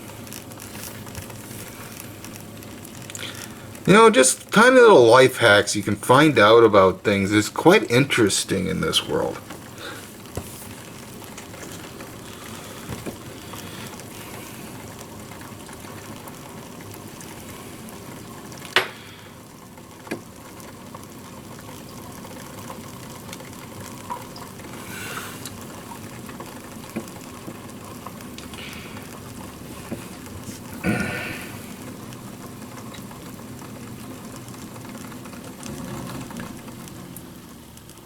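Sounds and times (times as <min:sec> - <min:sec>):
coffee machine bubbling hiss: 0:00.0 - 0:38.0.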